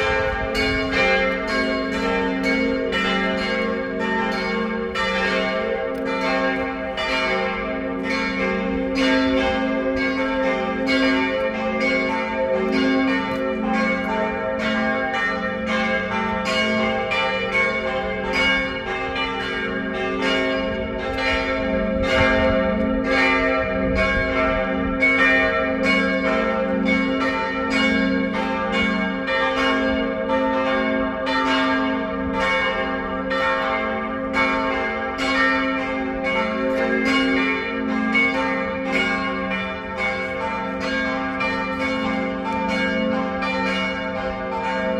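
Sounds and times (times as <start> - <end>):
church bells ringing a peal: 0.0 - 44.9.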